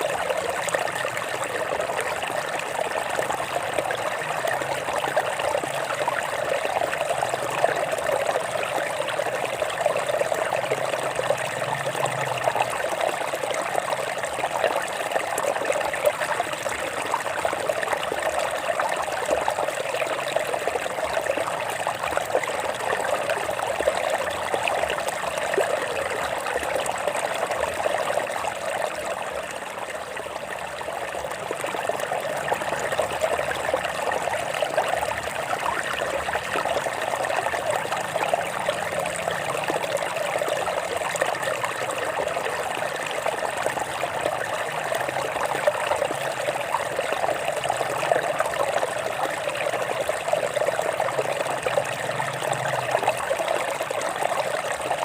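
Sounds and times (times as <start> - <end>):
stream water flowing over rocks: 0.0 - 55.0.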